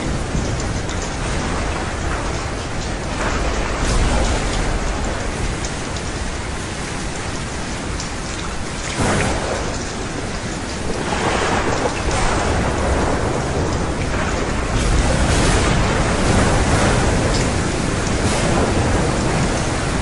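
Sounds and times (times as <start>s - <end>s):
thunder crack: 0.0s - 5.7s, 8.9s - 20.0s
rumbling thunder: 0.0s - 6.6s, 8.7s - 20.0s
heavy rain: 0.0s - 20.0s.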